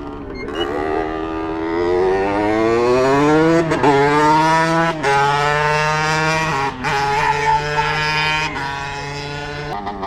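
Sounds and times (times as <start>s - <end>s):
go-kart engine accelerating: 0.0s - 10.0s.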